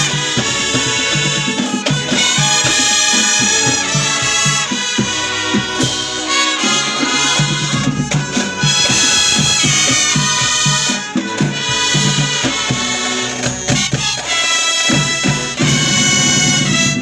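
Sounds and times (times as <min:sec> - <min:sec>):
brass chords: 0:00.0 - 0:17.0
drumline beating: 0:00.0 - 0:17.0.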